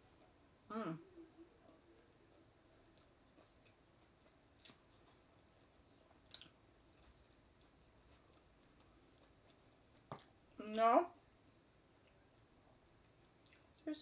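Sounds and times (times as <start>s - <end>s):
faint chewing: 0.0s - 10.6s, 11.2s - 13.9s.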